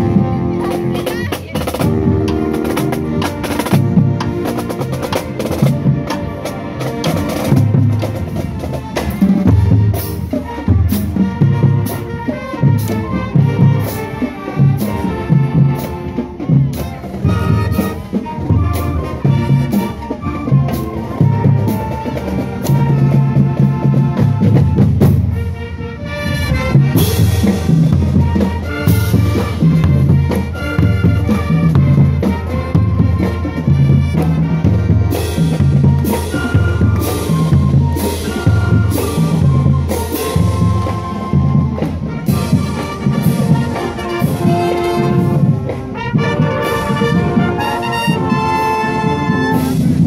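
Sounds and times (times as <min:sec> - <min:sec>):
steady drum beat: 0:00.0 - 0:25.6, 0:26.3 - 0:50.0
marching band playing: 0:00.0 - 0:50.0.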